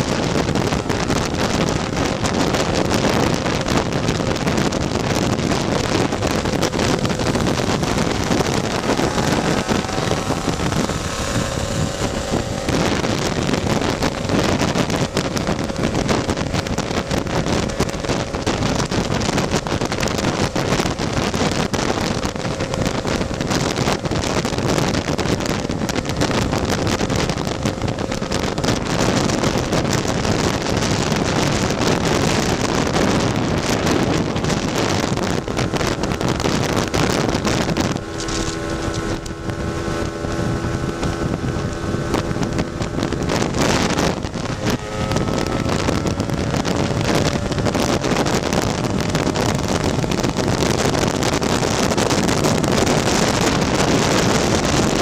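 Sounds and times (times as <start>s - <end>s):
scooter engine running: 0.0s - 55.0s
wind rush on microphone: 0.0s - 55.0s.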